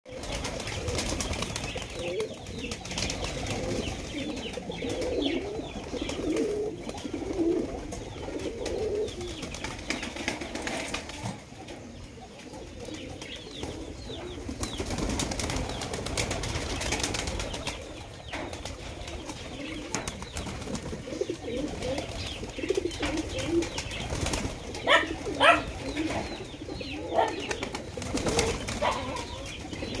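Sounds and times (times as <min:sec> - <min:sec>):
wings flapping: 0:00.1 - 0:11.6, 0:12.8 - 0:26.4, 0:27.1 - 0:30.0
pigeons cooing: 0:00.1 - 0:30.0
pigeons shuffling: 0:00.1 - 0:30.0.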